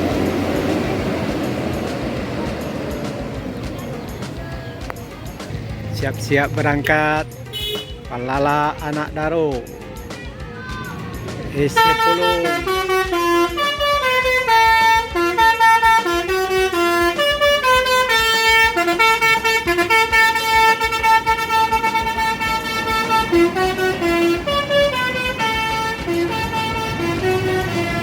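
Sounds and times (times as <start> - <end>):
multi-tone musical bus horn: 0.0 - 9.0, 9.7 - 28.0.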